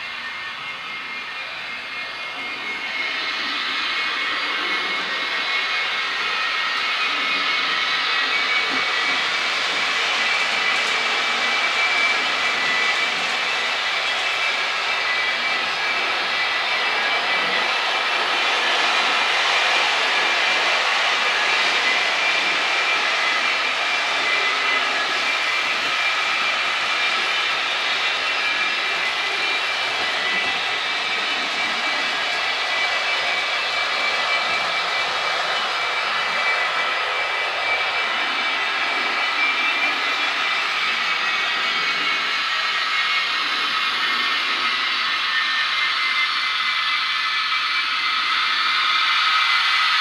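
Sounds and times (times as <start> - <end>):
model train motor whine: 0.0 - 50.0
wheels rolling on track: 2.2 - 47.0.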